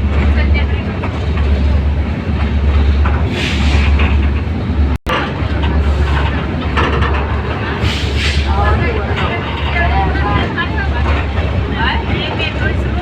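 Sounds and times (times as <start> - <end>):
train running from inside carriage: 0.0 - 13.0.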